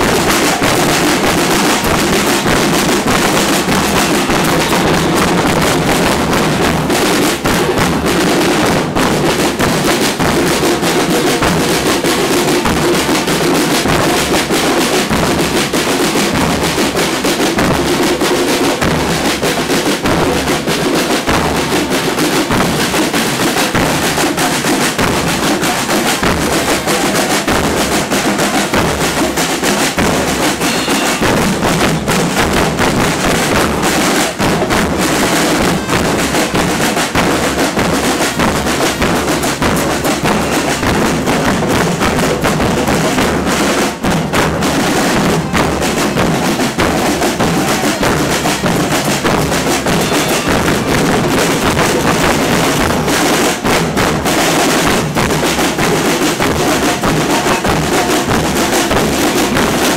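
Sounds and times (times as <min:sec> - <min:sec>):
bass drums and snare drums: 0:00.0 - 0:59.9.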